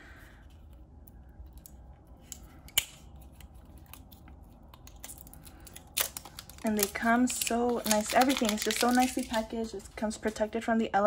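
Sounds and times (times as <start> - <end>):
soft rustling of tape and paper: 0.1 - 10.9.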